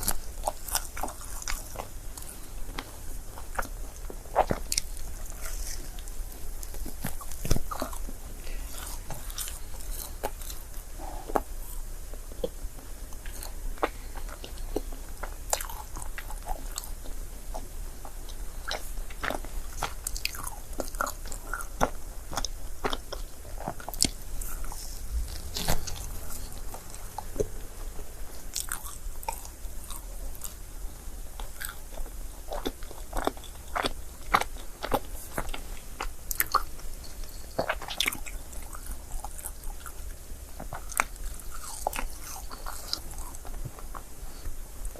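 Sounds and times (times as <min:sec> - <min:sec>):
mouth chewing food: 0:00.0 - 0:44.9.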